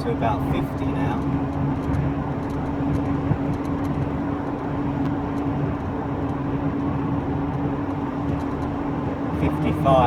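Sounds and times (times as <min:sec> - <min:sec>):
road and tyre rumble: 0:00.0 - 0:10.0
steady wheel bearing whine: 0:00.0 - 0:10.0.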